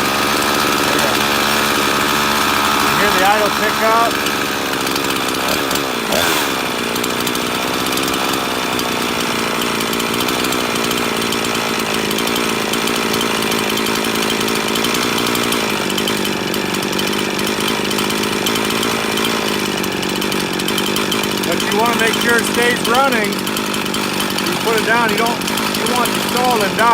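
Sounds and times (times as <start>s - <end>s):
chainsaw idling: 0.0s - 26.9s.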